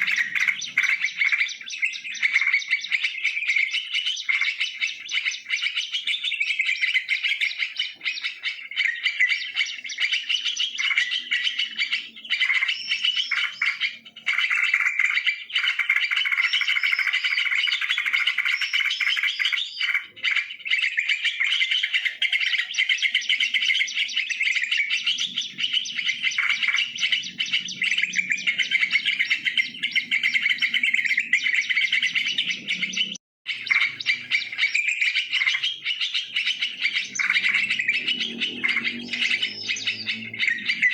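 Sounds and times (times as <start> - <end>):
birds chattering and calling: 0.0 - 40.9.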